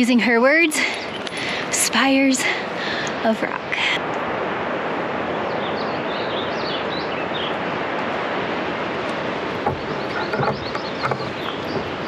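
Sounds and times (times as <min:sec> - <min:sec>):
rushing outdoor ambience: 0:00.0 - 0:12.0.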